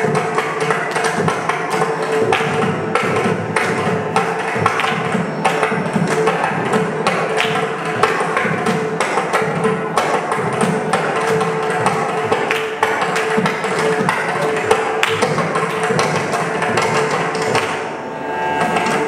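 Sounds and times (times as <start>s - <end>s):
hand drums played fast: 0.0s - 17.8s.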